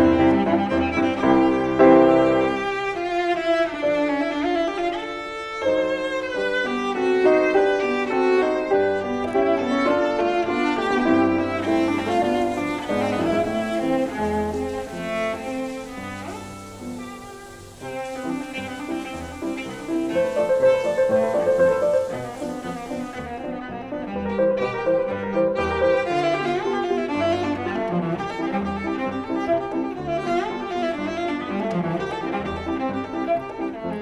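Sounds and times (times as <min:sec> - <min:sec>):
piano: 0:00.0 - 0:34.0
violin and cello melody: 0:00.0 - 0:34.0.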